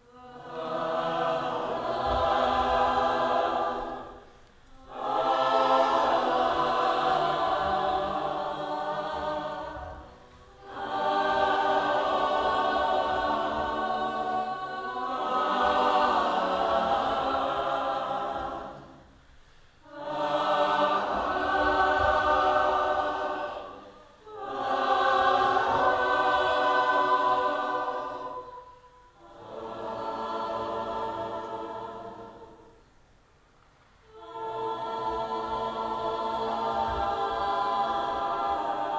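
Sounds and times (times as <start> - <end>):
choir singing held chords: 0.0 - 33.1, 34.0 - 38.9.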